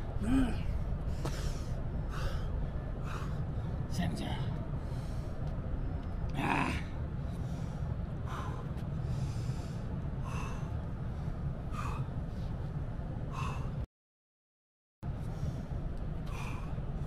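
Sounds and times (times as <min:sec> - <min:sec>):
steady low rumble: 0:00.0 - 0:13.9, 0:15.0 - 0:17.0
man breathing hard: 0:00.1 - 0:03.9, 0:04.7 - 0:05.8, 0:06.8 - 0:13.9, 0:15.2 - 0:17.0.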